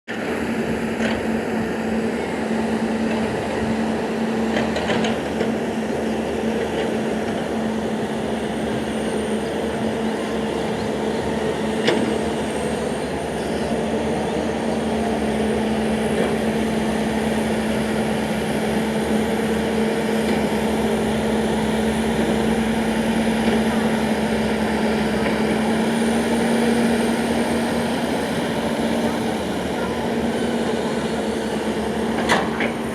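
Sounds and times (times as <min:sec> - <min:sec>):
vehicle engine running: 0:00.2 - 0:32.9.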